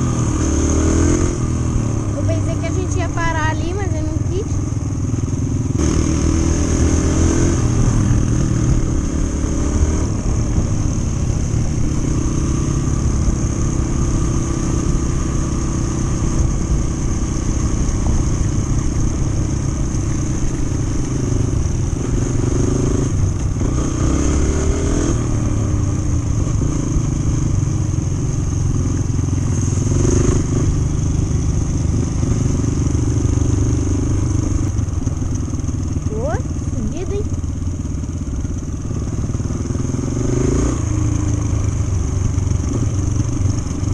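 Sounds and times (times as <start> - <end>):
motorbike engine running: 0.0 - 43.9.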